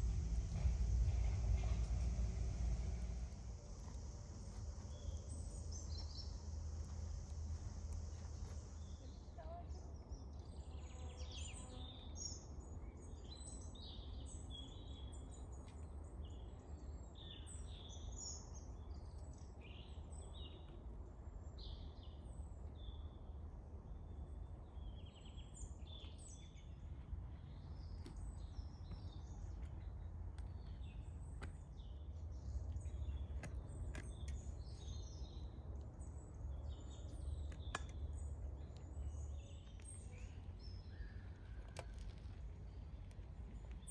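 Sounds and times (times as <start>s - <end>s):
low outdoor rumble: 0.0s - 43.9s
small birds chirping: 3.6s - 43.9s.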